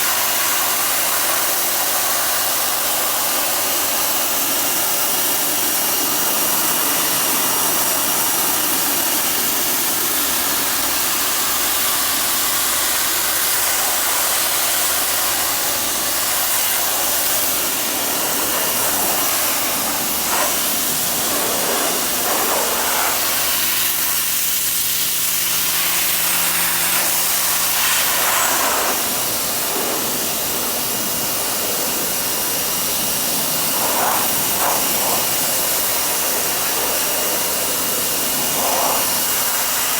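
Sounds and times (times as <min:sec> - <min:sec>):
high-pressure water spray hiss: 0:00.0 - 0:39.9.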